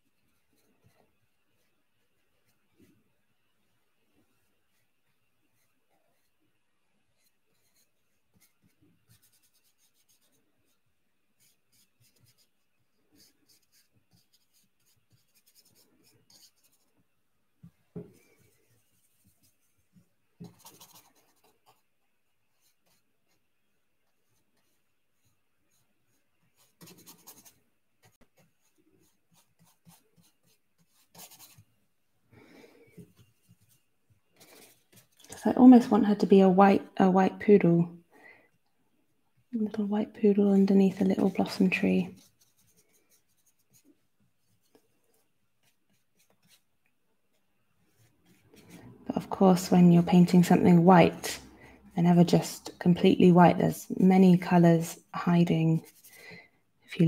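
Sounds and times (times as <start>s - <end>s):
paintbrush brushing on paper: 0.0s - 3.0s, 4.3s - 6.4s, 7.1s - 17.2s, 18.0s - 31.7s, 32.9s - 36.2s, 39.6s - 51.2s, 53.9s - 56.2s.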